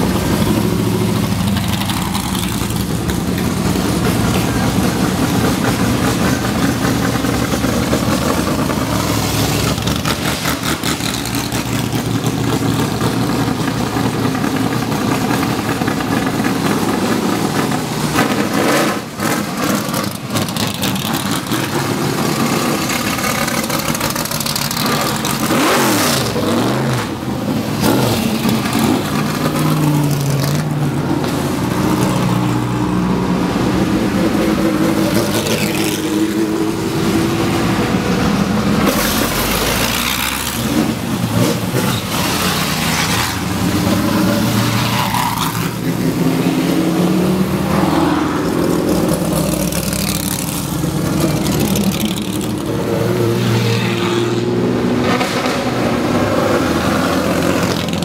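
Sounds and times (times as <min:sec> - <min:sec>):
race car engines revving past: 0:00.0 - 0:58.0.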